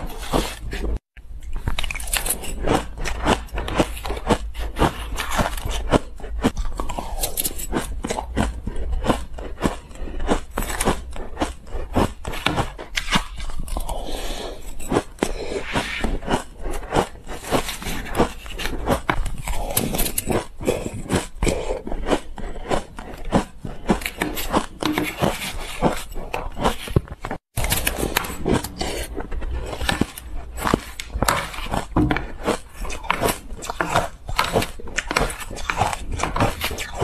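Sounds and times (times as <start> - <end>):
crushed ice being chewed: 0.0 - 37.0
metal spoon scraping ice: 1.7 - 6.1, 6.9 - 37.0.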